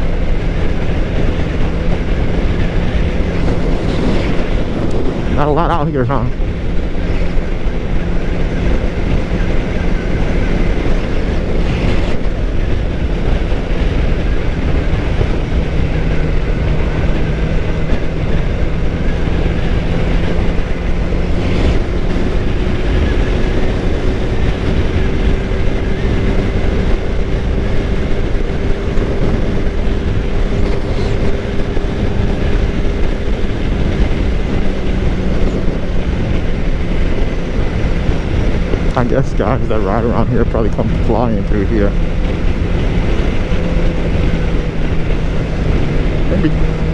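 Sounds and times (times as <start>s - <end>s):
motorcycle engine cruising: 0.0s - 46.9s
wind and road rush: 0.0s - 46.9s.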